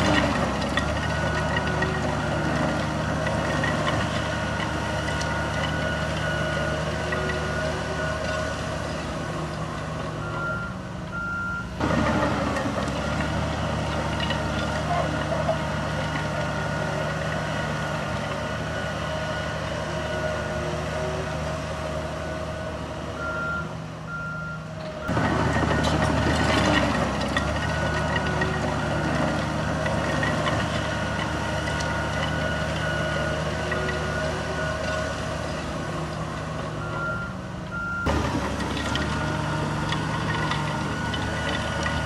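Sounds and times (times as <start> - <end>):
diesel construction machinery: 0.0 - 42.0
reversing alarm beeping: 0.1 - 9.5, 10.1 - 11.8, 14.2 - 36.1, 36.7 - 42.0.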